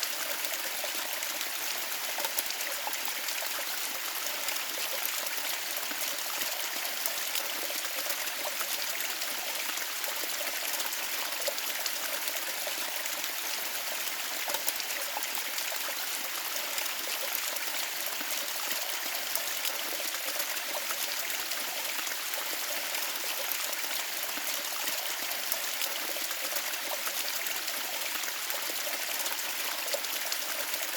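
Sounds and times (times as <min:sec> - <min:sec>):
stream running water: 0:00.0 - 0:30.9.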